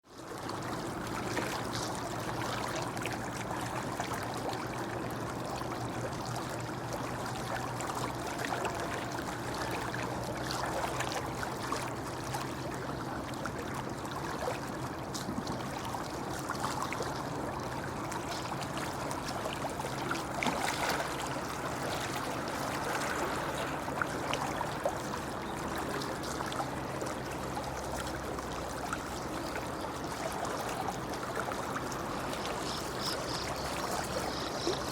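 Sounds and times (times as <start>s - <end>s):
shallow river babbling: 0.0s - 34.9s.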